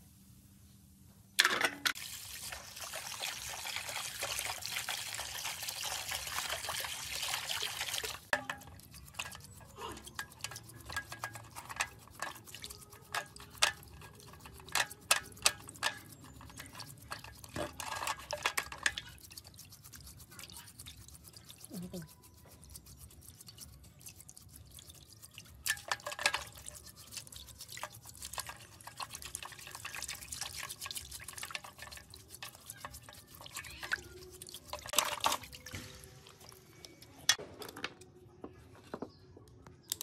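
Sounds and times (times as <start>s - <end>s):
splashing and sloshing in basin: 1.9s - 36.9s
brush scrubbing in water: 2.2s - 36.6s.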